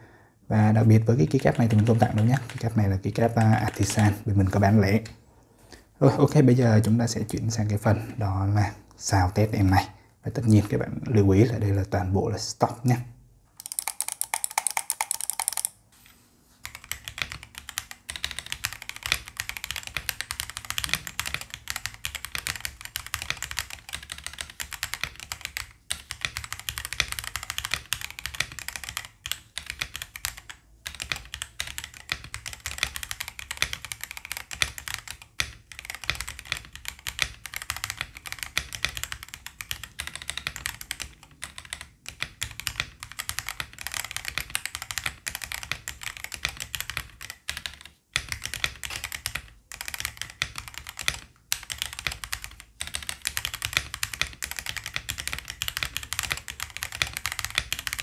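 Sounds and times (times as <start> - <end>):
mechanical keyboard typing: 0.8 - 5.1, 13.6 - 15.8, 16.6 - 58.0.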